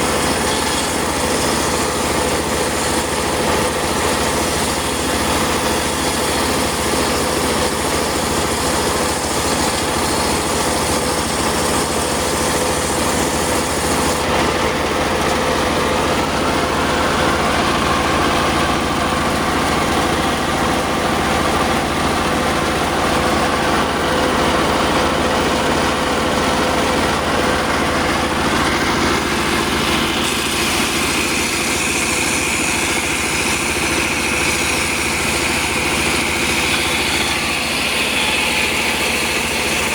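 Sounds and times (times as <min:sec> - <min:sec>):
circular saw mechanical drone: 0:00.0 - 0:39.9
saw blade whining through wood: 0:00.0 - 0:39.9.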